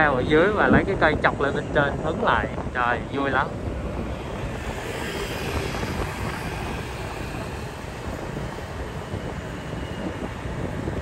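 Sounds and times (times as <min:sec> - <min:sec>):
motorbike road noise: 0:00.0 - 0:11.0
wind buffeting microphone: 0:00.0 - 0:11.0.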